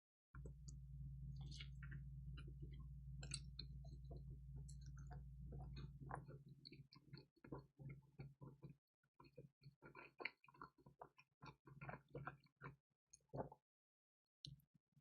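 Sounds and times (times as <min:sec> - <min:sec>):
close chewing sounds: 0:00.4 - 0:13.5.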